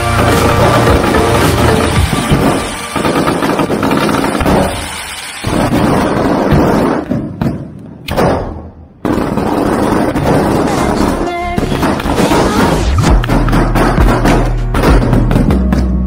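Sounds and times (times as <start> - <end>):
firecrackers banging and crackling: 0.0 - 16.0.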